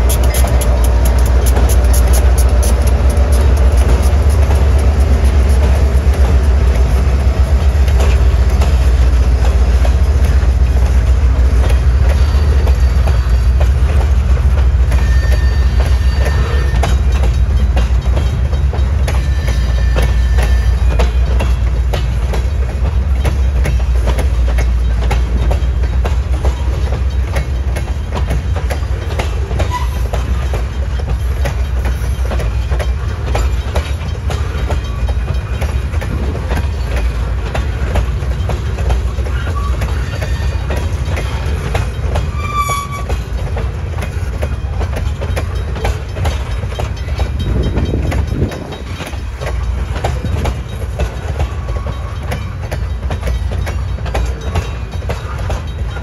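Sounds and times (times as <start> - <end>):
freight train rumble: 0.0 - 56.0
wheels clacking over rail joints: 0.0 - 56.0.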